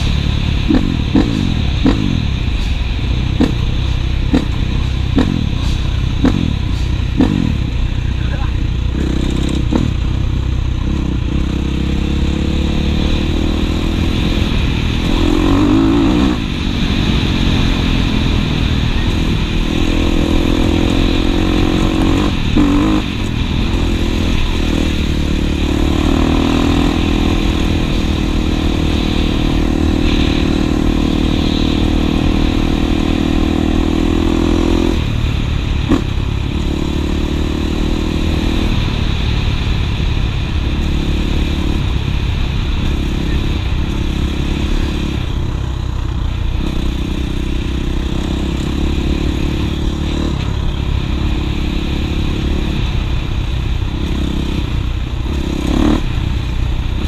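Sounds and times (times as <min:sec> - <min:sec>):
dirt bike engine: 0:00.0 - 0:57.0
wind noise on microphone: 0:08.7 - 0:57.0.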